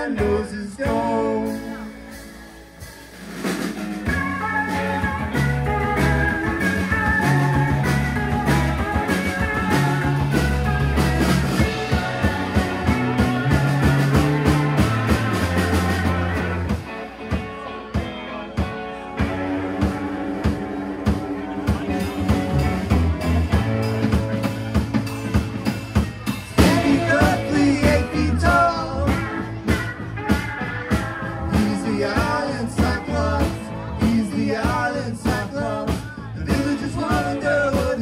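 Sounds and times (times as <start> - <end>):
bass guitar: 0.0 - 38.0
drum kit: 0.0 - 38.0
electric guitars: 0.0 - 38.0.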